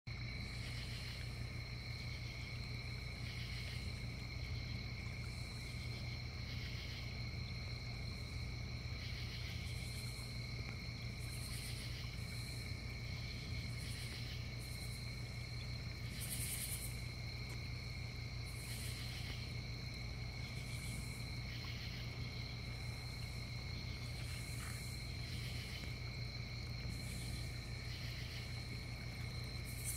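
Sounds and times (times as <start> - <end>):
crickets chirping: 0.1 - 29.9
insect buzzes: 0.2 - 29.9.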